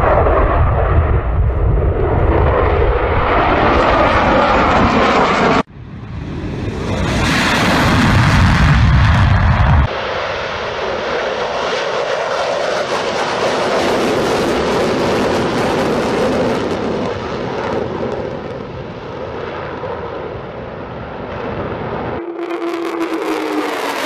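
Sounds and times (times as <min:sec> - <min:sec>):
jet aircraft flying overhead: 0:00.0 - 0:24.0.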